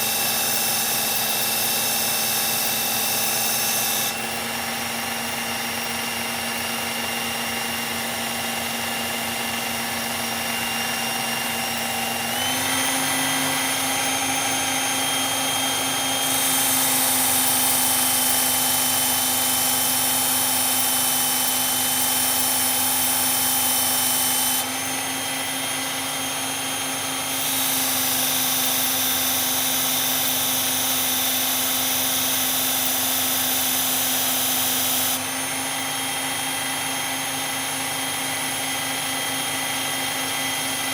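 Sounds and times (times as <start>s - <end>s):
blade grinding on abrasive: 0.0s - 36.0s
knife sharpener motor hum: 0.0s - 40.9s.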